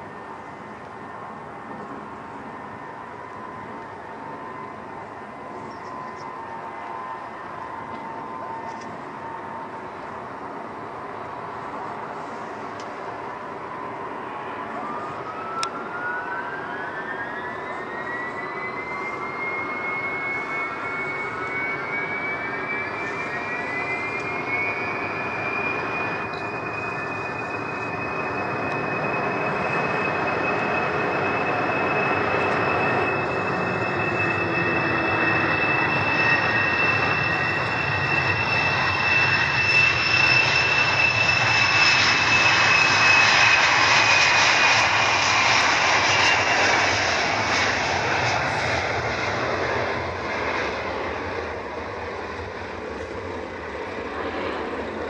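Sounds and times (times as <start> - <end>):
jet engines spooling up with whine: 0.0 - 55.0
loud jet noise on takeoff: 0.0 - 55.0.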